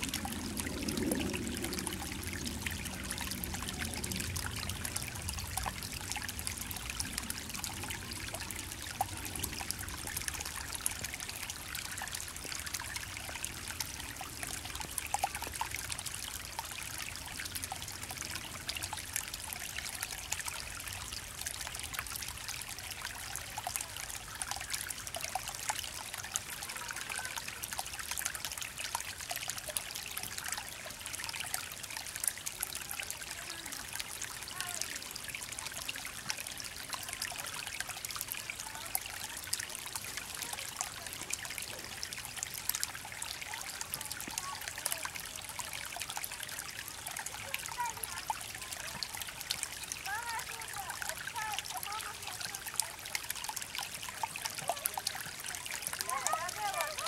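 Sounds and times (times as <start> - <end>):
creek trickling over stones: 0.0 - 57.0.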